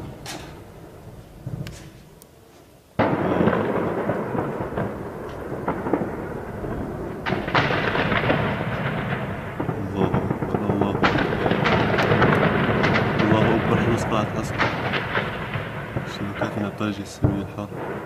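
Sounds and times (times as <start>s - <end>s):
heavy gunfire crackle: 0.0s - 18.0s
sharp gunshot cracks: 3.0s - 18.0s.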